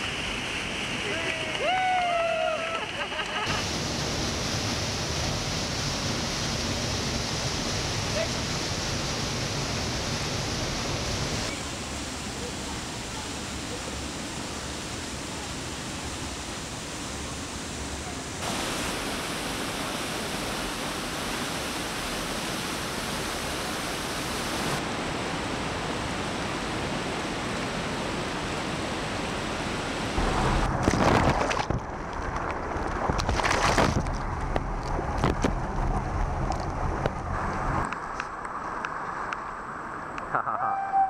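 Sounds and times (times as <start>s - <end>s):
river water rushing: 0.0s - 34.2s.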